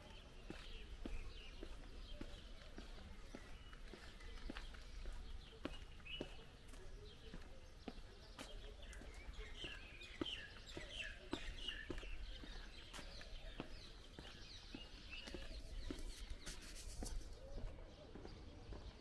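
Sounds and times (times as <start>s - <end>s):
footsteps: 0.0s - 18.9s
birds chirping: 0.0s - 19.0s.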